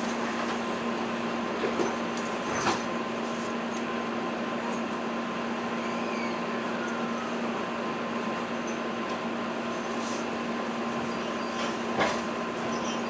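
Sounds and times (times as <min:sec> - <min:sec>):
train air conditioning hum: 0:00.0 - 0:13.0.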